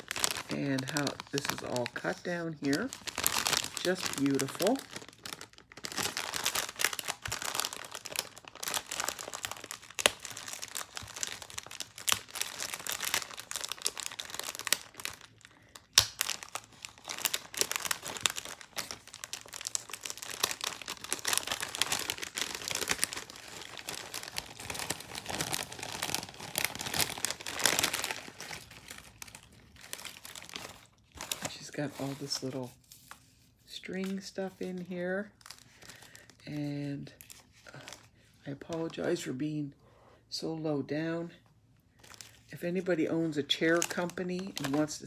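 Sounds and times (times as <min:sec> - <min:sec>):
packaging crinkling and rustling: 0:00.0 - 0:39.2, 0:42.0 - 0:45.0.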